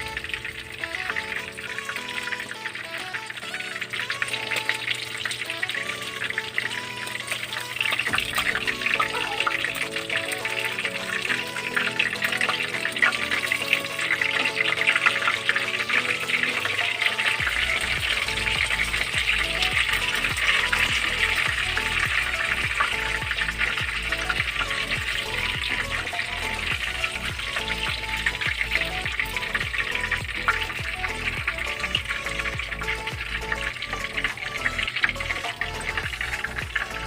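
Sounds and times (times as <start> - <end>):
background music with steady beat: 0.0 - 37.0
chicken sizzling in hot oil: 0.0 - 37.0.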